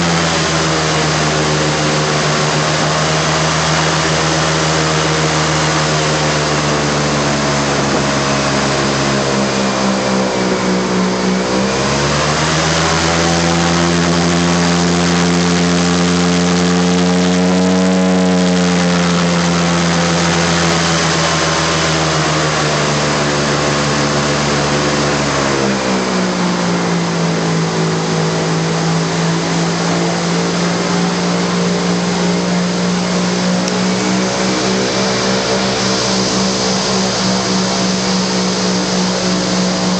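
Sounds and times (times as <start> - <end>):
propeller wash hiss: 0.0 - 17.3, 18.4 - 39.9
airboat engine running: 0.0 - 39.9.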